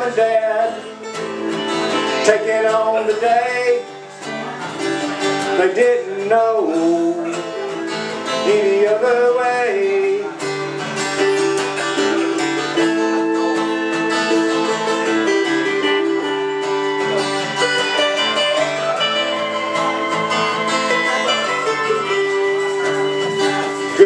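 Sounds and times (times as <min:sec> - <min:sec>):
acoustic guitars strummed: 0:00.0 - 0:24.0
held keyboard notes: 0:00.0 - 0:24.0.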